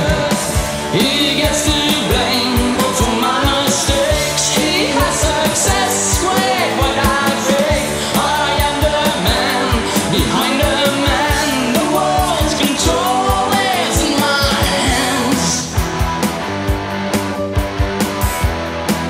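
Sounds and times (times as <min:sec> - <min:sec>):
rock song: 0:00.0 - 0:19.0.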